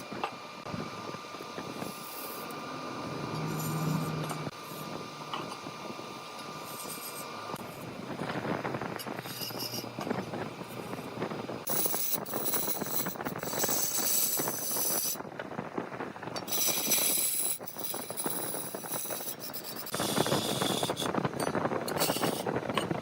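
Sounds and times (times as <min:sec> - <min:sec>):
tool scraping spinning wood: 0:00.0 - 0:15.2, 0:16.4 - 0:23.0.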